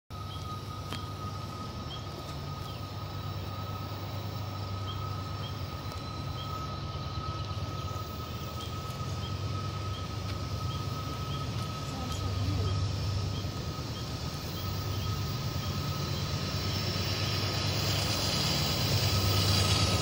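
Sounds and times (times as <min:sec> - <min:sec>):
low engine rumble: 0:00.1 - 0:20.0.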